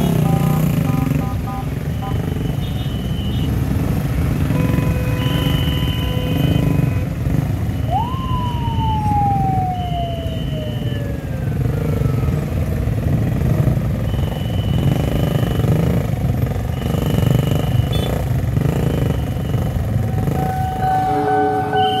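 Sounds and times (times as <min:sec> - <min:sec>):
motorcycle engines idling and revving: 0:00.0 - 0:22.0.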